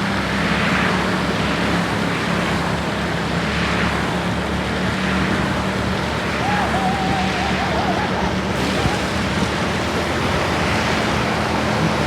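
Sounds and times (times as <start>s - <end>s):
bus engine drone: 0.0s - 12.0s
road noise hiss: 0.0s - 12.0s.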